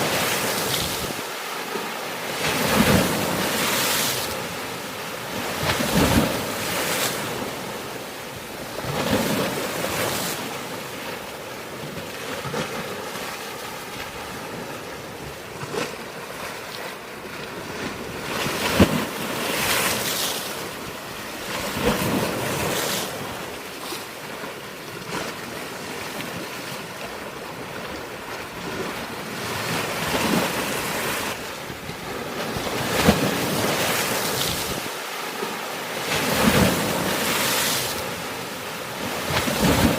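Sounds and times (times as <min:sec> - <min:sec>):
sea waves breaking on rocks: 0:00.0 - 0:39.9.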